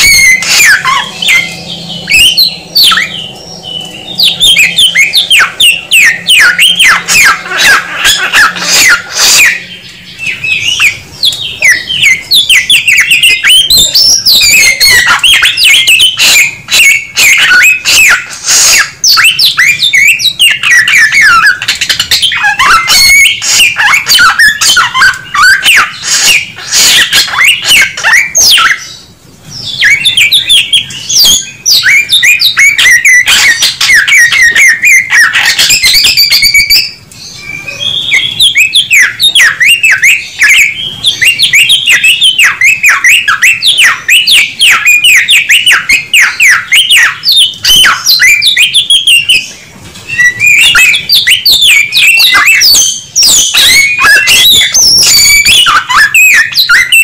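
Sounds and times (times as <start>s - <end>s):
bird singing whistled notes: 0.0s - 57.0s.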